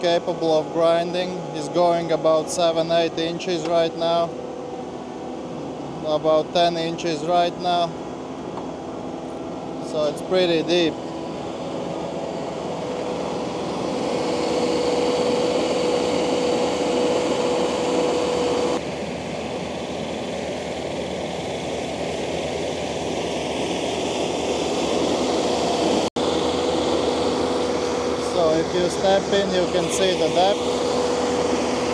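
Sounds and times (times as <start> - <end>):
heavy machine with whine: 0.0 - 31.9.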